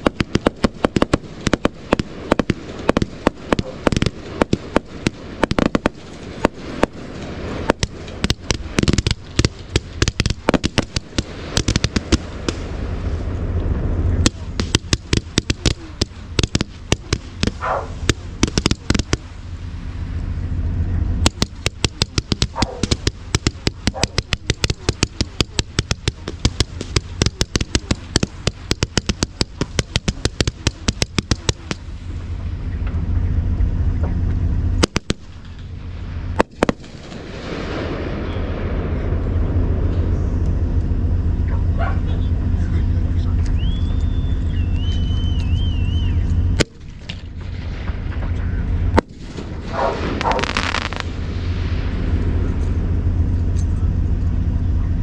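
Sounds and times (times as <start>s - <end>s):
fireworks bangs: 0.0s - 55.0s
fireworks crackling: 0.0s - 55.0s
low rumble: 0.0s - 55.0s.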